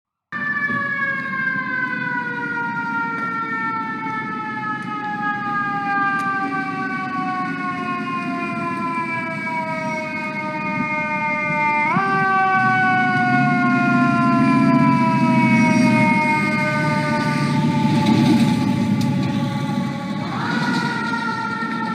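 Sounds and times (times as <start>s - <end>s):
fire truck siren: 0.3s - 21.9s
truck and traffic rumble: 0.4s - 21.9s.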